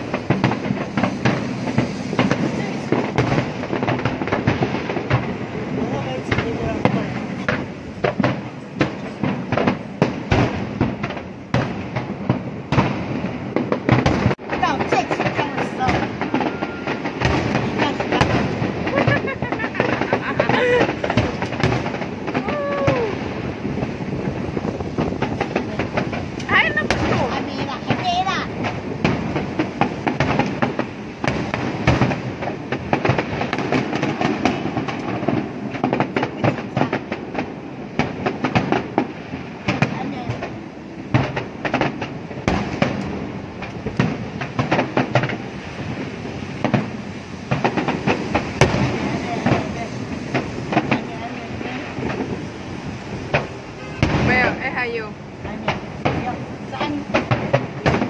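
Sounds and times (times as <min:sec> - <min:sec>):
fireworks bursting: 0:00.0 - 0:58.0
fireworks display rumble: 0:00.0 - 0:58.0.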